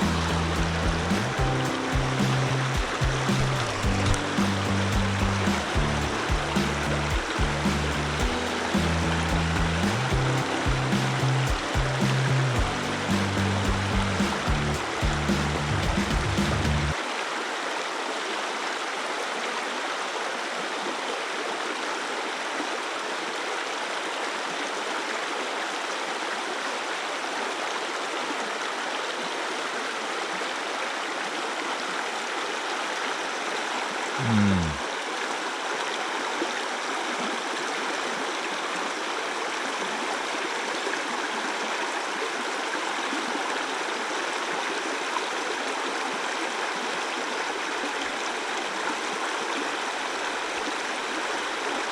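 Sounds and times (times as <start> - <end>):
stream water rushing: 0.0 - 51.9.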